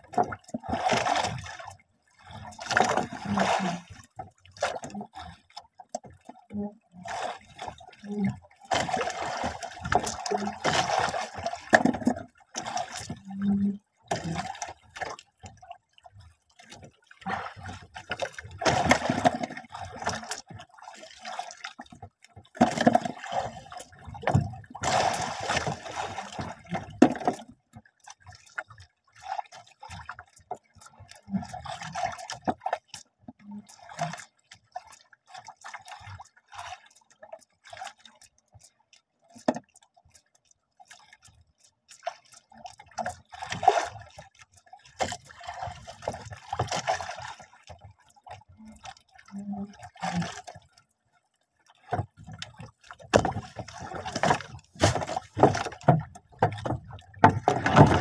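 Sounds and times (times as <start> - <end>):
water lapping against boat: 0.0 - 58.0.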